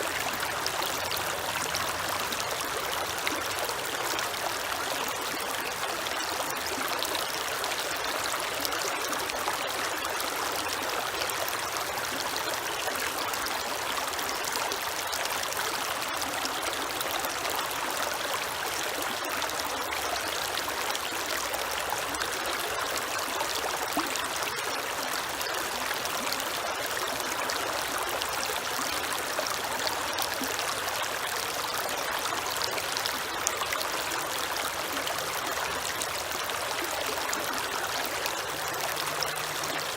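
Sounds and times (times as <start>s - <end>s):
creek water flowing over stones: 0.0s - 39.9s
water trickles and drips: 0.0s - 39.9s.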